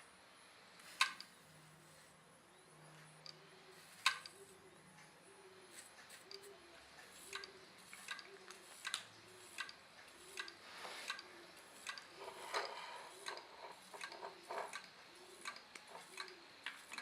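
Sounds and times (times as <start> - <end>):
hard drive clicking: 0.8 - 1.4, 3.0 - 17.0.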